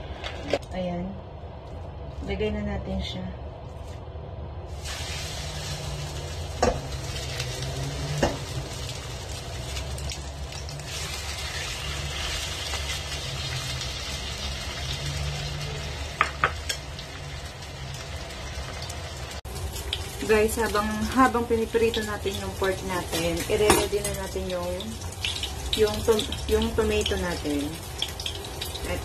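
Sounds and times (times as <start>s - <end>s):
meat sizzling in oil: 4.7s - 29.0s.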